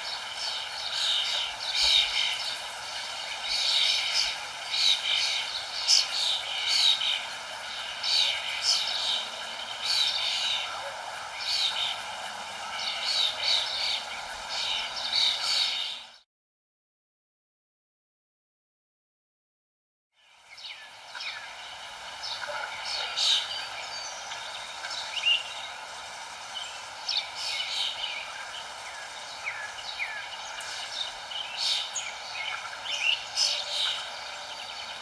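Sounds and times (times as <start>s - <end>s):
songbirds chirping: 0.0s - 16.2s, 20.2s - 35.0s
steady background hiss: 0.0s - 16.2s, 20.2s - 35.0s.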